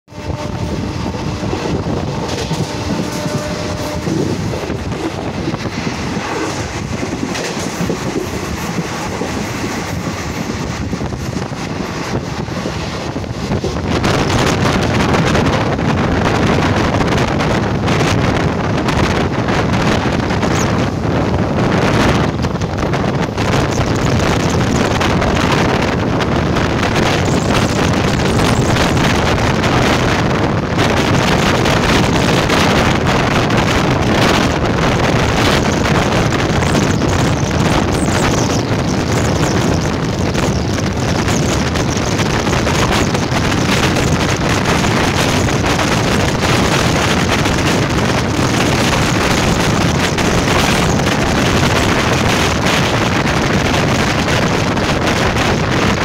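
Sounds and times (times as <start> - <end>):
train wheels rumbling on rails: 0.0 - 56.0
wind buffeting microphone: 0.0 - 56.0.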